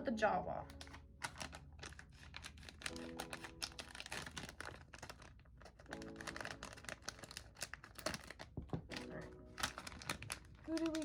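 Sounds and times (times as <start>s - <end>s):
plastic package being torn open: 0.7s - 11.0s.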